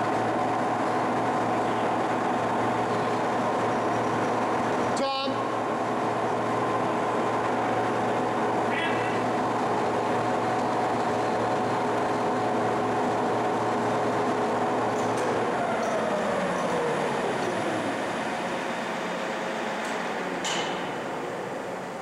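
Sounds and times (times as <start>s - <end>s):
lathe humming and whining: 0.0s - 22.0s.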